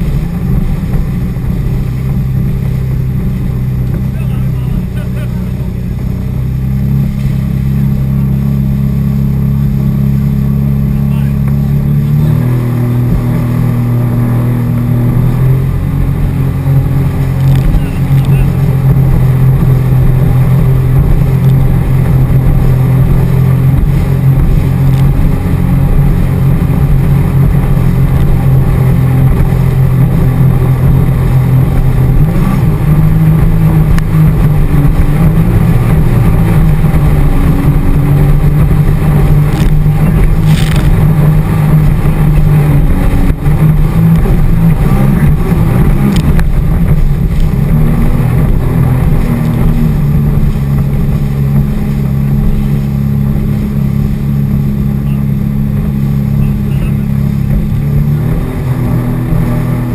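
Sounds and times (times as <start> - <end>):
personal watercraft engine droning: 0.0 - 59.9.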